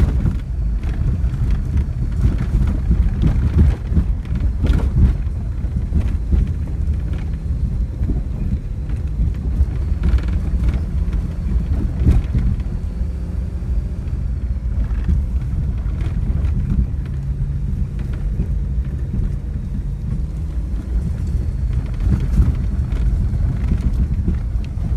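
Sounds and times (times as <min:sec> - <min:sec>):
vehicle engine and tyres rumbling: 0:00.0 - 0:24.9
vehicle knocks and rattles: 0:00.0 - 0:24.9.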